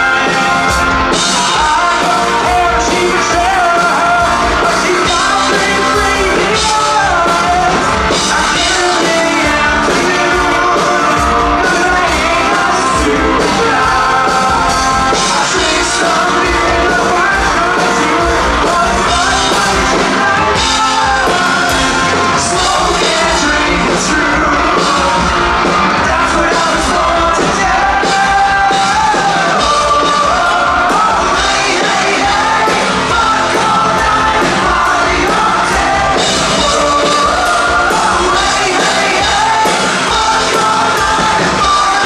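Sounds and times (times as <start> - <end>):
live rock band playing: 0.0 - 42.0
singer yelling vocals: 0.0 - 42.0.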